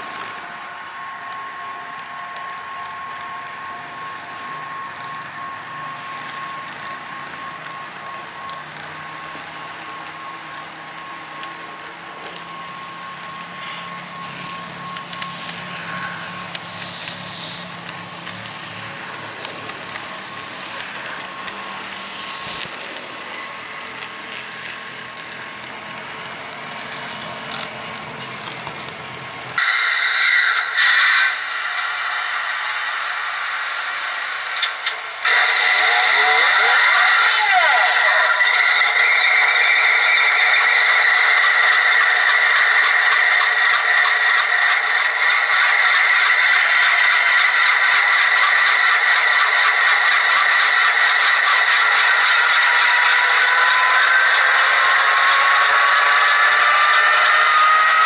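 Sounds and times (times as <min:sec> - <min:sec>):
loud mechanical sound: 0:00.0 - 0:58.0
model train motor whirring: 0:00.0 - 0:58.0
thin high whine: 0:00.0 - 0:58.0.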